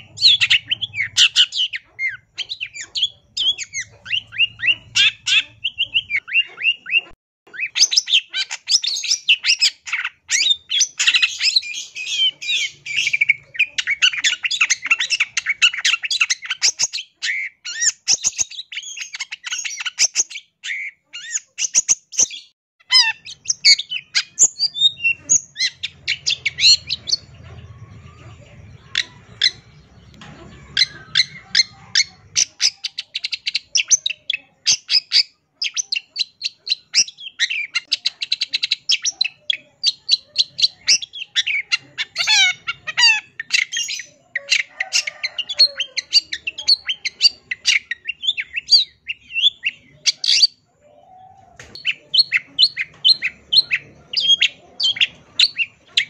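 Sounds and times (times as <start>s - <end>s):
bird singing chattering song: 0.0s - 56.0s.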